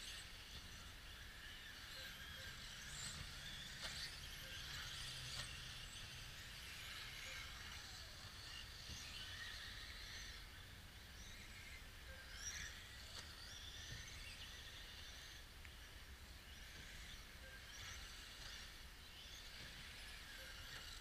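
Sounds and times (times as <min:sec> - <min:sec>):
rc car motors whining: 0:00.0 - 0:21.0.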